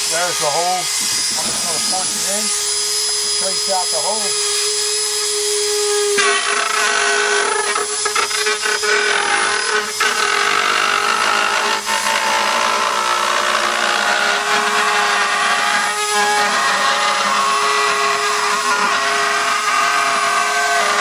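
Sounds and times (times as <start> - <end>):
rotary tool cutting plastic: 0.0 - 21.0.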